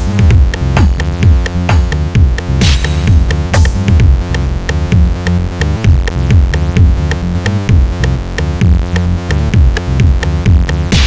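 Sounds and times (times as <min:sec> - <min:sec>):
deep synth bass sliding: 0:00.0 - 0:11.0
hi-hat ticks: 0:00.0 - 0:11.0.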